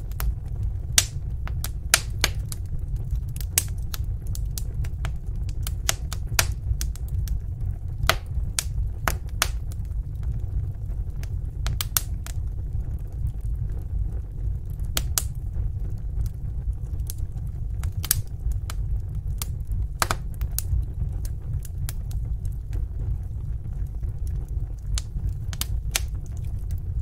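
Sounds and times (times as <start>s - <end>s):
fire crackles and pops: 0.0s - 27.0s
low rumble of flames: 0.0s - 27.0s.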